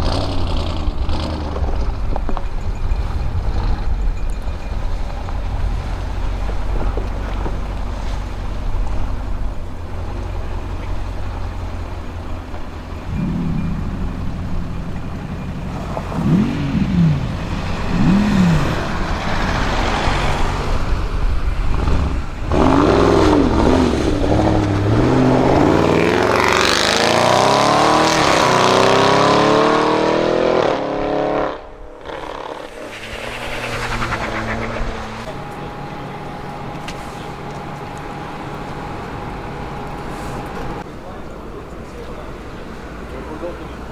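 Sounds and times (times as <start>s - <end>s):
car accelerating hard: 0.0s - 43.9s
car engine idling and revving: 0.0s - 43.9s.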